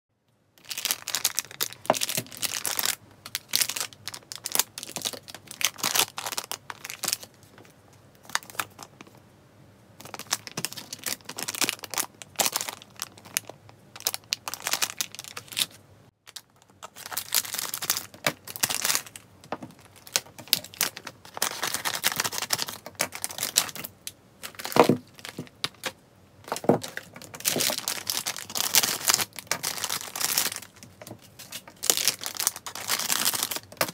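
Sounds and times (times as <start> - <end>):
plastic packets crinkling: 0.6 - 9.2, 10.0 - 33.9.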